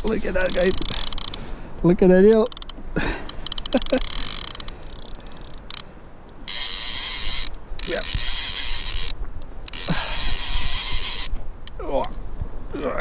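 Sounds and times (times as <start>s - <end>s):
fishing reel gears whirring: 0.0s - 1.4s, 2.3s - 11.8s.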